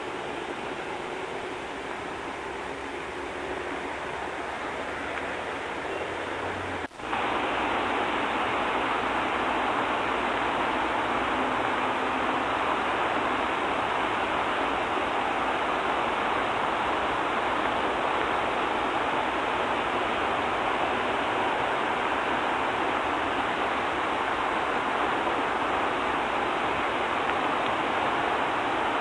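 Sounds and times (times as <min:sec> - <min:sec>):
rain falling steadily: 0:00.0 - 0:29.0.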